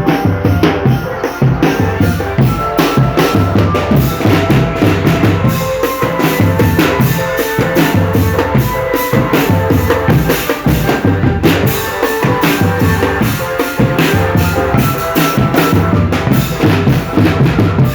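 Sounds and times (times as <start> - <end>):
marching drum band: 0.0 - 17.9.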